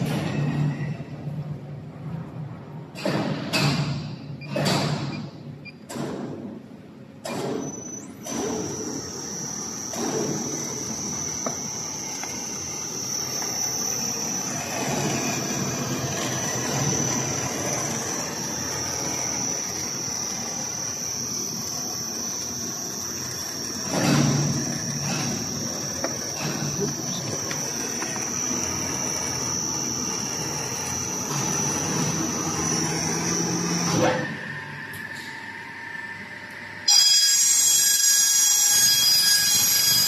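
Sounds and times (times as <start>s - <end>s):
high-pitched machine whine: 0.0s - 6.0s, 7.2s - 40.0s
mechanical rumble and rattle: 0.0s - 36.9s.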